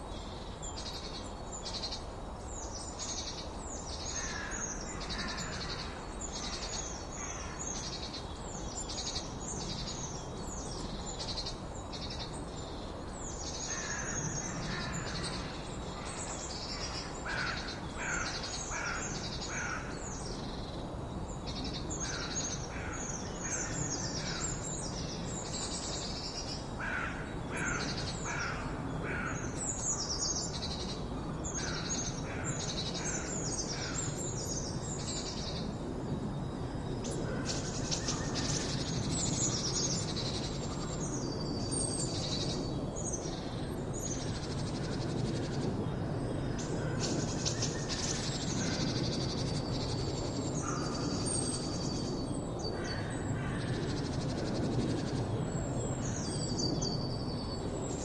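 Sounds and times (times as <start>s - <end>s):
birds singing and chirping: 0.0s - 58.0s
low background noise: 0.0s - 58.0s.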